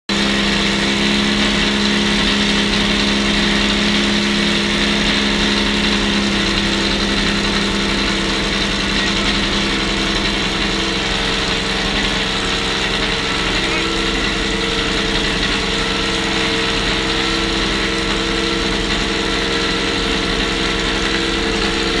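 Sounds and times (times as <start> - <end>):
car engine idling: 0.1 - 22.0.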